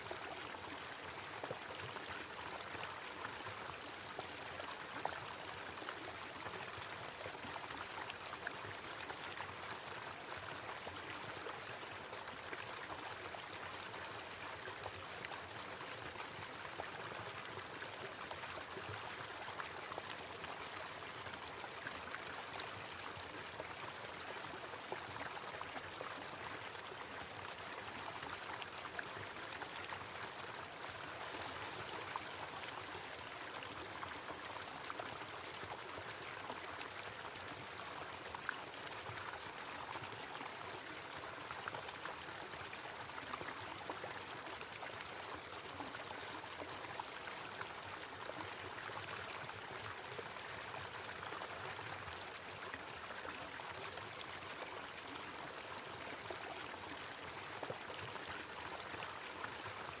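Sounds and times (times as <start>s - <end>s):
small waterfall splashing: 0.0s - 60.0s.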